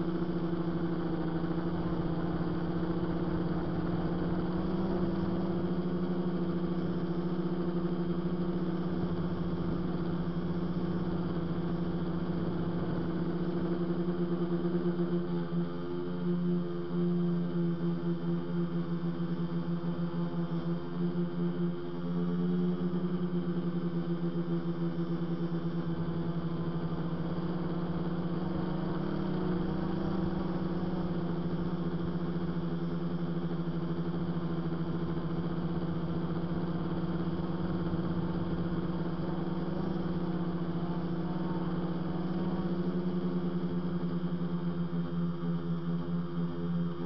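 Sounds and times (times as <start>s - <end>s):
drone motors humming: 0.0s - 47.0s.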